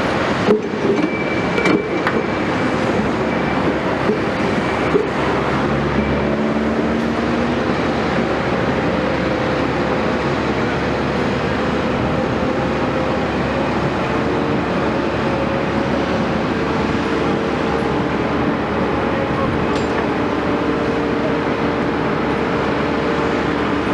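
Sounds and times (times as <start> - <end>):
hydraulic excavator running: 0.0 - 23.9.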